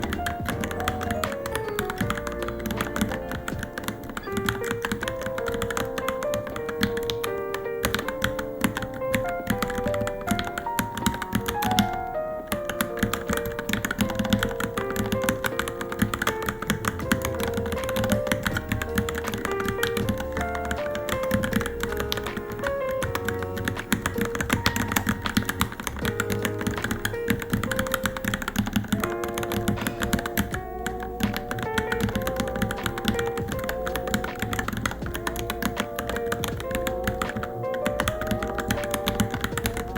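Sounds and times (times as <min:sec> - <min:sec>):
background music melody: 0:00.0 - 0:39.9
mechanical keyboard typing: 0:00.0 - 0:39.9.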